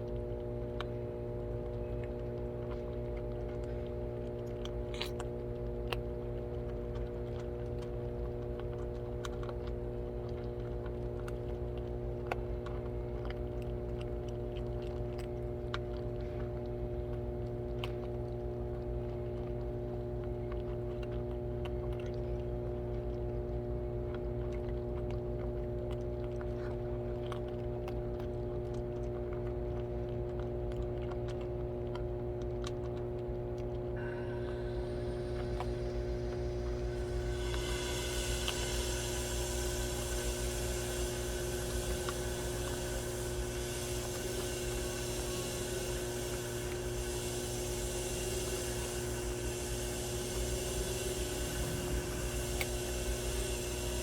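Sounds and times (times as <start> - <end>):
cats chewing and crunching: 0.0 - 54.0
steady low hum: 0.0 - 54.0.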